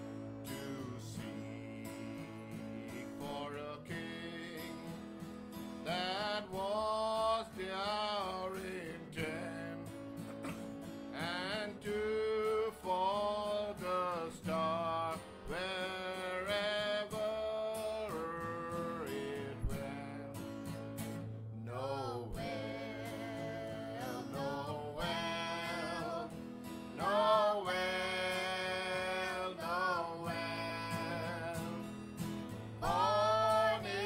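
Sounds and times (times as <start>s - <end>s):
person singing a carol: 0.0s - 5.1s, 5.8s - 10.5s, 11.1s - 20.5s, 21.6s - 34.0s
strummed acoustic guitar: 0.0s - 34.0s.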